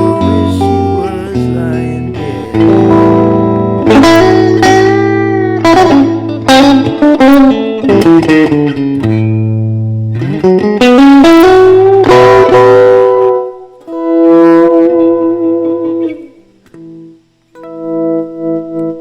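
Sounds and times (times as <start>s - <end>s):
solo electric guitar: 0.0s - 19.0s.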